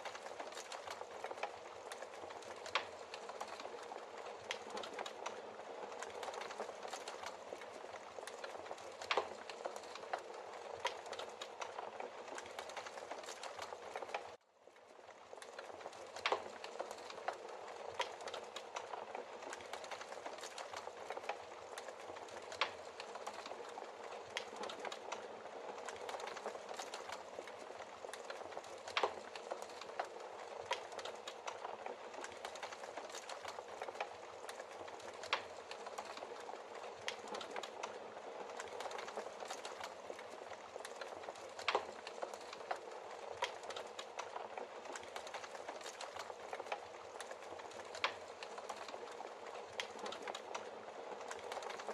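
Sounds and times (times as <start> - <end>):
wood crackling and popping: 0.0 - 51.9.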